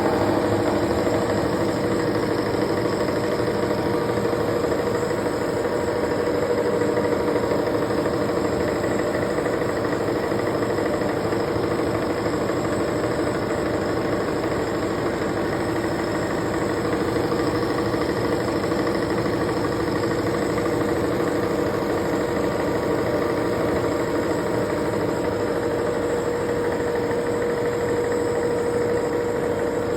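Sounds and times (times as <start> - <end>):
steady machine whine: 0.0 - 29.9.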